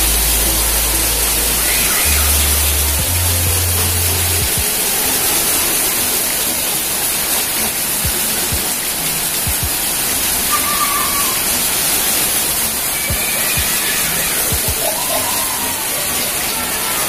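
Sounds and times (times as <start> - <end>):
rain on concrete and puddles: 0.0 - 17.0.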